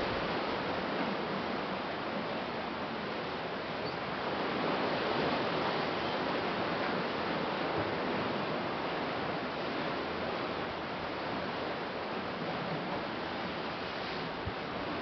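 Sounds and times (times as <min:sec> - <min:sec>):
ocean surf on rocky shore: 0:00.0 - 0:15.0.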